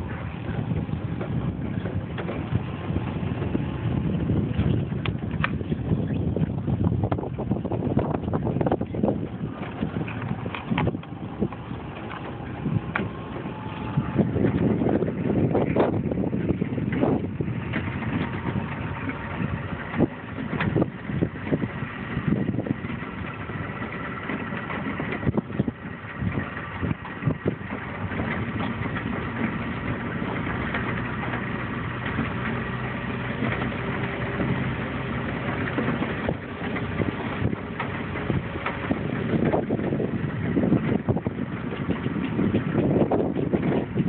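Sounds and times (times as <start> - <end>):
engine running: 0.0 - 44.0
wind buffeting microphone: 0.0 - 44.0.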